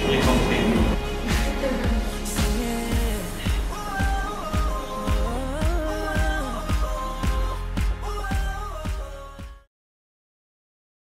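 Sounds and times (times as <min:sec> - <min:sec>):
pop music with steady beat: 0:00.0 - 0:09.7.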